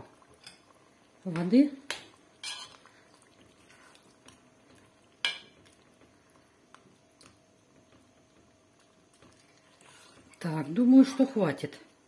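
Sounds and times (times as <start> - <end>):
rice stirred in liquid: 0.0 - 12.0.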